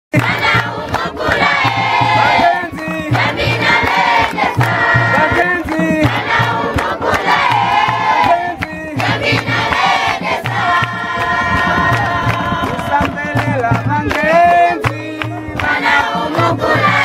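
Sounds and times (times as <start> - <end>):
crowd singing together: 0.1 - 17.0
rhythmic hand clapping: 0.1 - 17.0.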